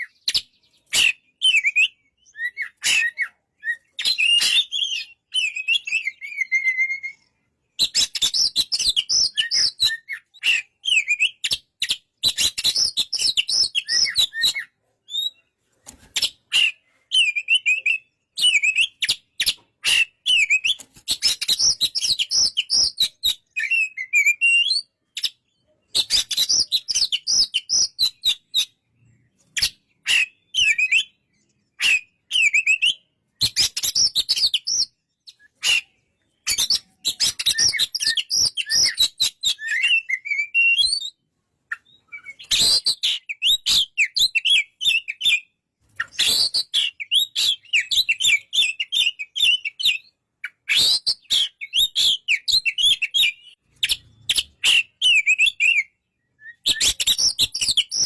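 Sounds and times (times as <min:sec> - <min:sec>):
bird singing whistled phrases: 0:00.0 - 0:15.5, 0:16.2 - 0:58.0.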